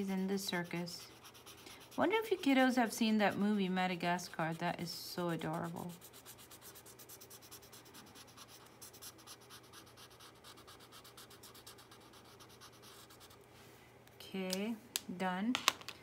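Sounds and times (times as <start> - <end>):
marker scratching on paper: 0.0 - 13.4.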